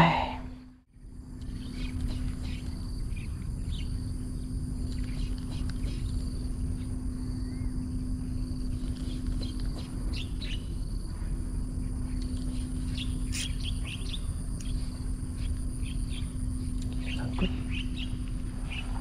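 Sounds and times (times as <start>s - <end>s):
steady low hum: 0.0s - 19.0s
faint bird chirps: 1.4s - 10.8s, 11.9s - 14.8s, 15.4s - 19.0s.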